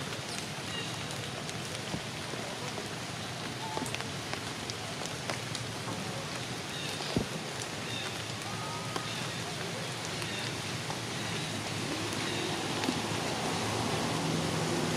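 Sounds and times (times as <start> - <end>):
rain pattering on leaves: 0.0 - 14.9.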